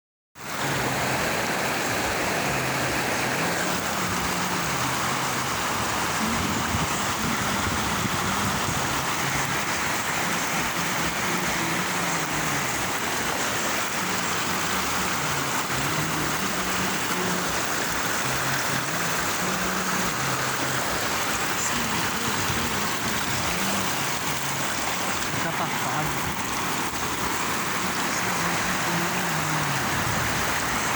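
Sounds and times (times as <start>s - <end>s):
flowing water rushing: 0.4s - 30.9s.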